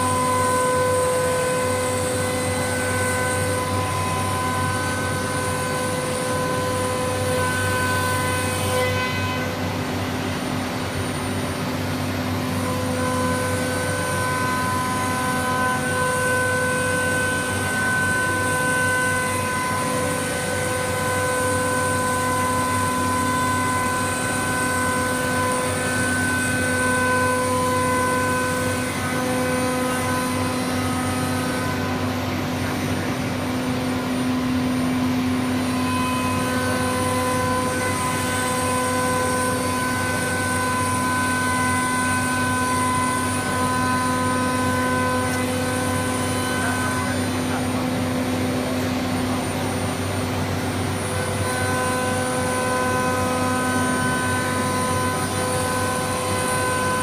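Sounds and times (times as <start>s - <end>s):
industrial machine drone: 0.0s - 57.0s.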